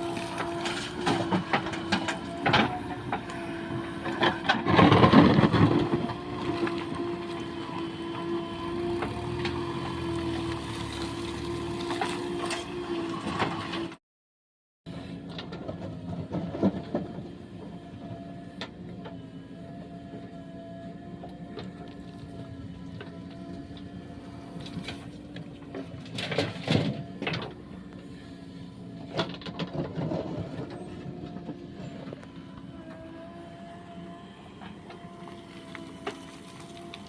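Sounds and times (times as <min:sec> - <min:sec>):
diesel engine running: 0:00.0 - 0:14.0, 0:14.9 - 0:37.0.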